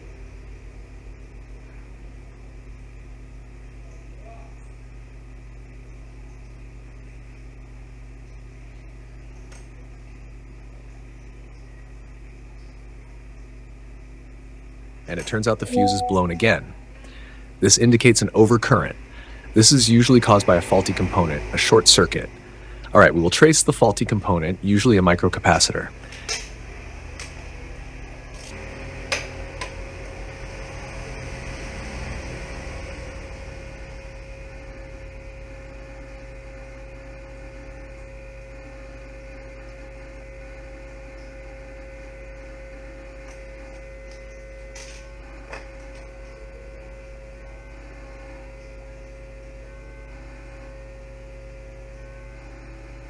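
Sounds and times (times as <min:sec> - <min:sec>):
faint steady whine: 0:00.0 - 0:28.8, 0:29.4 - 0:53.0
electrical mains hum: 0:00.0 - 0:53.0.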